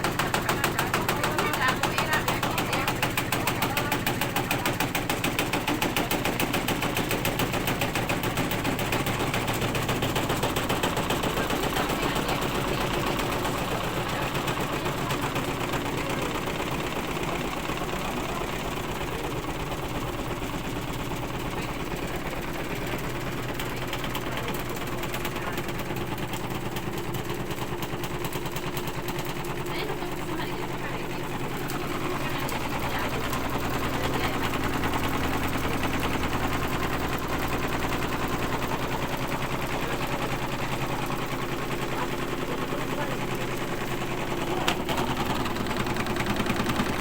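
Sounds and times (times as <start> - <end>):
washing machine spinning and knocking: 0.0 - 47.0.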